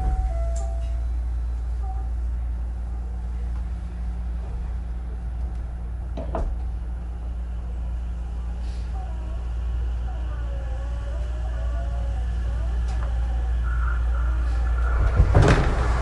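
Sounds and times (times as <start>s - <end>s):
train car rumble and hum: 0.0s - 16.0s.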